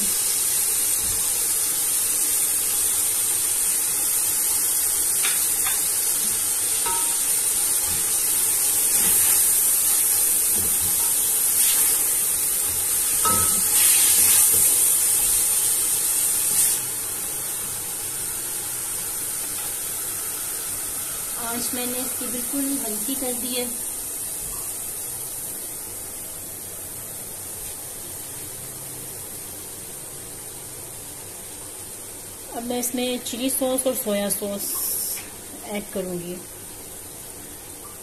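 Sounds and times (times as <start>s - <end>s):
vegetables sizzling in oil: 0.0s - 38.0s.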